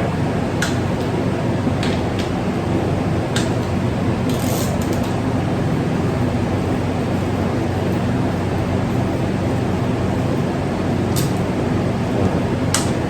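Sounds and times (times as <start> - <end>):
electric fan whooshing: 0.0 - 13.0.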